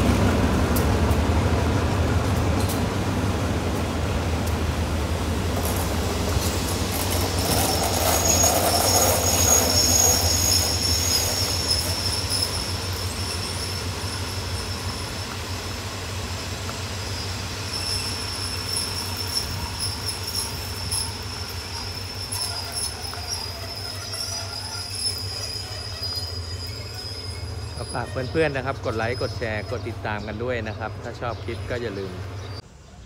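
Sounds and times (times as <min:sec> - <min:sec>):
train rumble: 0:00.0 - 0:32.7
train wheels squealing: 0:05.6 - 0:32.6.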